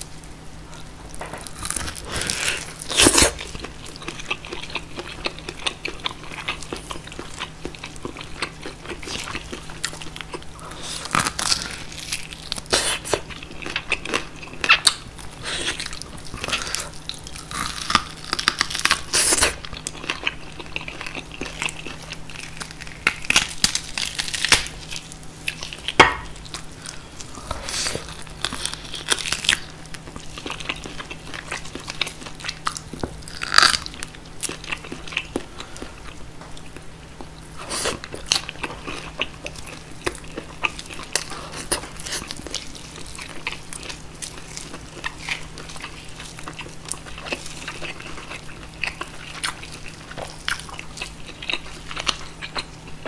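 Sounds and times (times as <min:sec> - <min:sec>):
crunchy chewing: 0:00.0 - 0:53.0.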